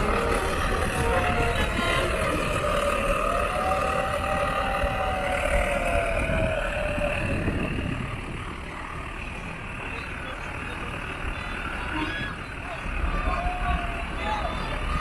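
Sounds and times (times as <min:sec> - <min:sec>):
large vehicle passing: 0:00.0 - 0:15.0.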